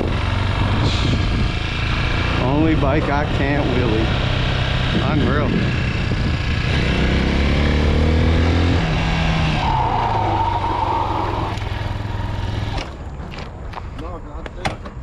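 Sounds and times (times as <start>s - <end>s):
dirt bike engine accelerating: 0.0s - 13.3s.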